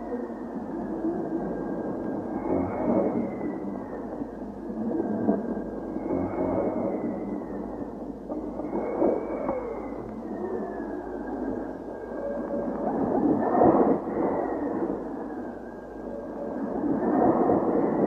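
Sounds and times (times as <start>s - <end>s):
thin high wavering tone: 0.0s - 18.0s
dense rumbling noise: 0.6s - 18.0s.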